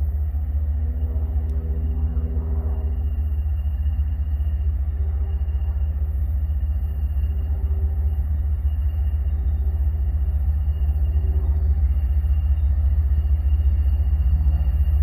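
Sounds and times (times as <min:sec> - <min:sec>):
diesel locomotive hum: 0:00.0 - 0:15.0
freight train rumble: 0:00.0 - 0:15.0.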